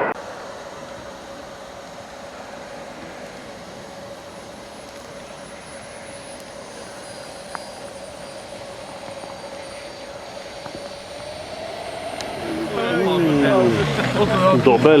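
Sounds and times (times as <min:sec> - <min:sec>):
model airplane engine drone: 0:00.0 - 0:15.0.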